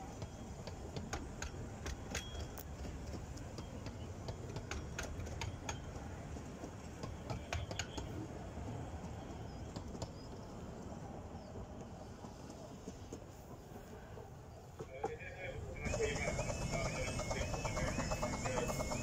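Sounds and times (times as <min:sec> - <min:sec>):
wheels clicking over rail joints: 0:00.0 - 0:19.0.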